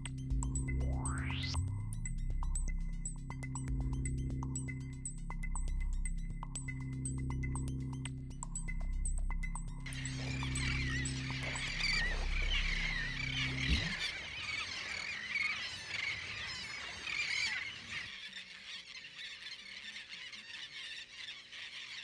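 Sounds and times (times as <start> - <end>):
low sustained musical tones: 0.0 - 18.1
birds chirping and twittering: 0.0 - 22.0.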